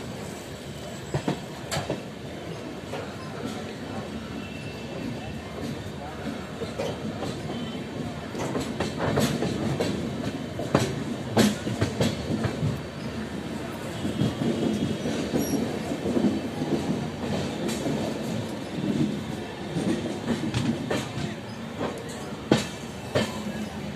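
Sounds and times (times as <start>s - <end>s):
train coaches rumbling: 0.0s - 23.9s.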